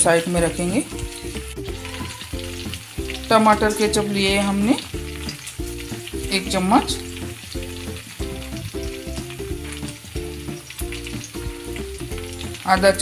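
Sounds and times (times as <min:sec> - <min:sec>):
chicken frying in oil: 0:00.0 - 0:13.0
music of repeating chords: 0:00.0 - 0:13.0.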